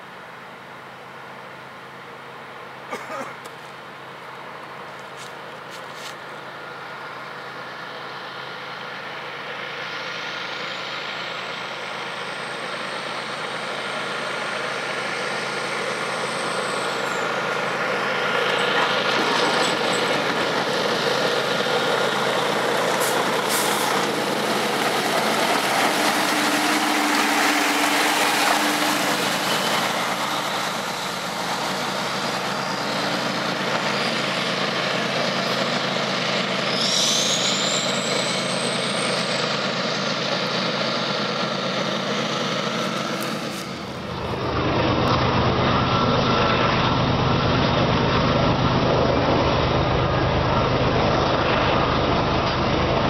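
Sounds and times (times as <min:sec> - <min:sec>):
diesel locomotive engine: 0:00.0 - 0:53.0
train running noise: 0:00.0 - 0:53.0.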